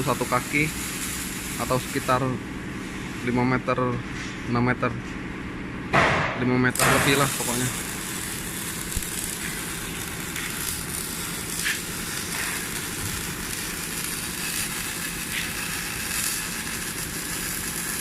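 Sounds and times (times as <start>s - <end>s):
welding arc sizzling: 0.0s - 3.7s, 6.5s - 18.0s.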